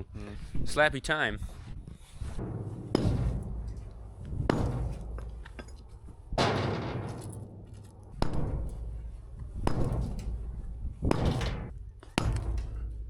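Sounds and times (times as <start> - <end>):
heavy strikes on concrete: 2.3 - 13.0
debris clattering: 2.4 - 13.0.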